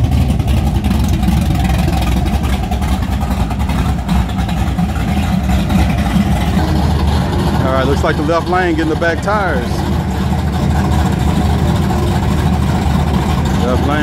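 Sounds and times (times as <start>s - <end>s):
drag-racing truck engines rumbling: 0.0s - 14.0s.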